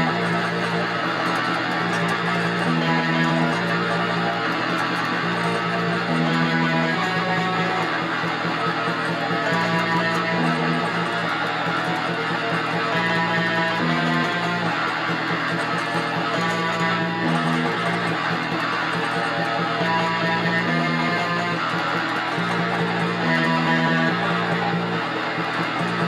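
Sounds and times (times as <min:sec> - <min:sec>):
electric guitar strummed chord riff: 0:00.0 - 0:26.0.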